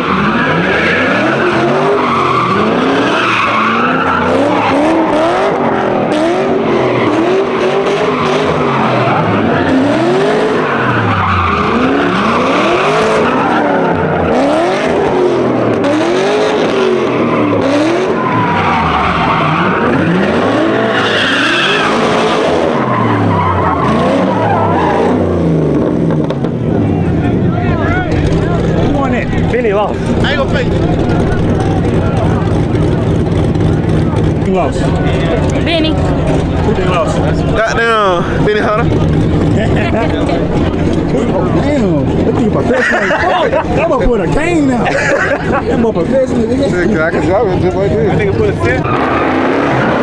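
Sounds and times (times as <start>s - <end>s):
car engine revving hard: 0.0s - 50.0s.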